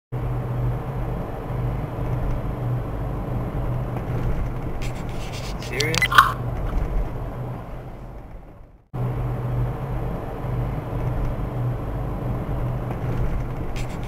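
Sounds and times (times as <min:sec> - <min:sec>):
car engine and road noise: 0:00.2 - 0:14.0.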